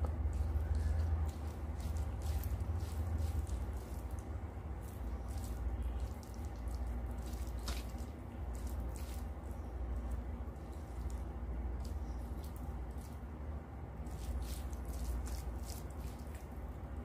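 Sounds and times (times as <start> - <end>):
fingers mixing wet food: 0.0 - 16.8
steady low hum: 0.0 - 17.0.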